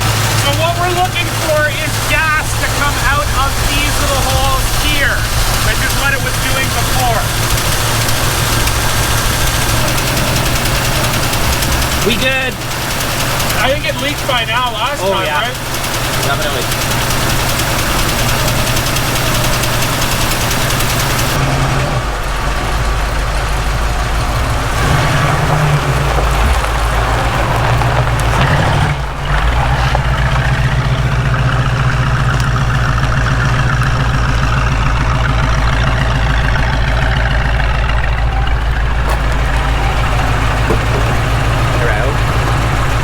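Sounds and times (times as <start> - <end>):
car engine running: 0.0 - 43.0.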